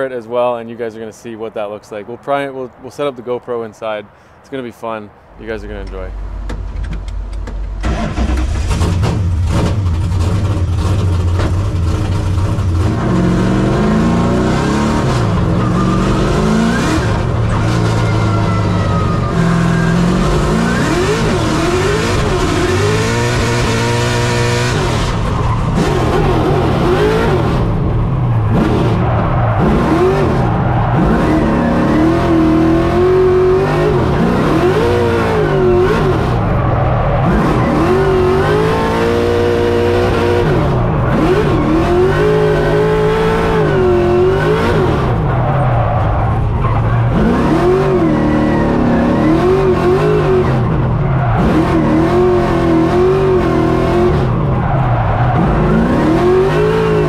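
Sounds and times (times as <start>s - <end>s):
car engine revving: 6.0s - 57.0s.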